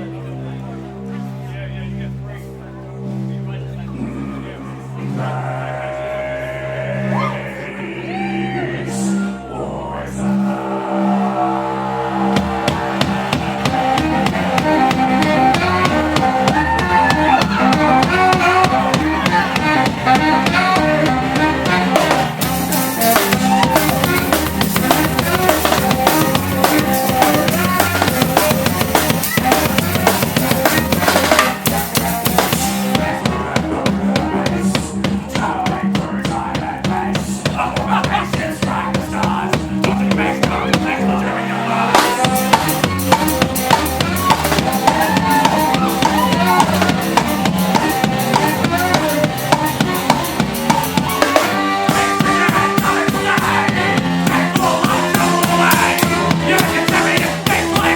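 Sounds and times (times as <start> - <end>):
low bass line: 9.3 - 57.9
live band music: 10.2 - 57.9
drum kit beat: 10.7 - 41.2, 41.9 - 57.9.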